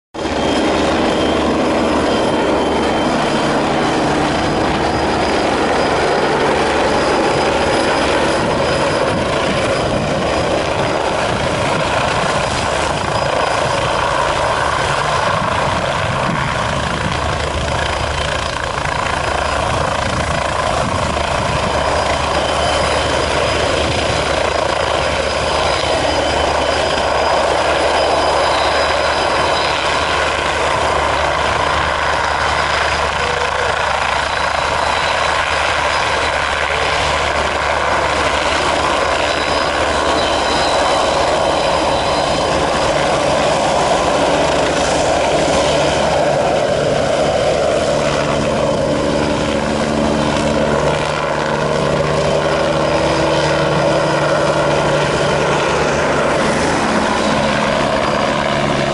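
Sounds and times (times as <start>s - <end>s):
helicopter rotor beat: 0.2s - 58.9s
turboshaft engine whine: 0.2s - 58.9s.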